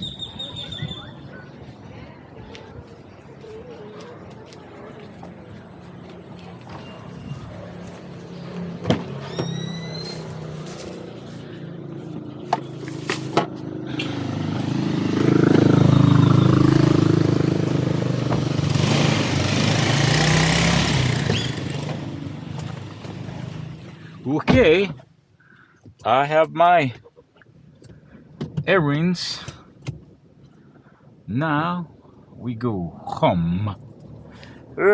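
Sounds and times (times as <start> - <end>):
road noise: 0.0 - 34.9
vehicle engine humming: 3.0 - 31.3.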